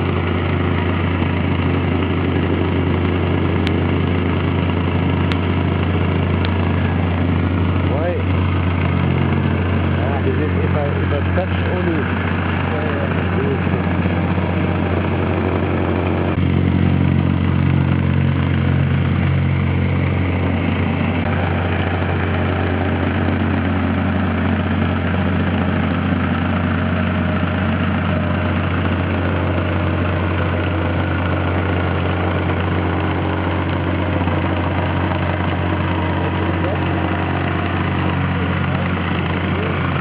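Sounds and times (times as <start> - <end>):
plate compactor engine running: 0.0 - 40.0.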